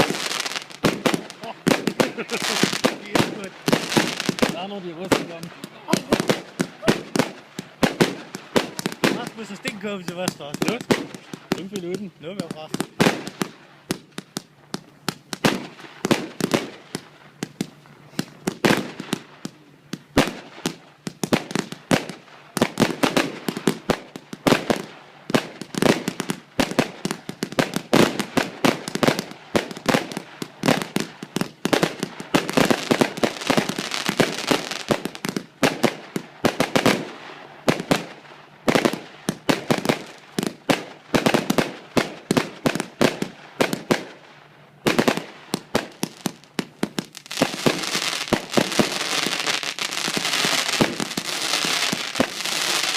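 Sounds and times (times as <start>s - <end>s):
fireworks launch bangs: 0.0s - 44.2s, 44.9s - 52.9s
fireworks hissing crackle: 0.0s - 52.9s.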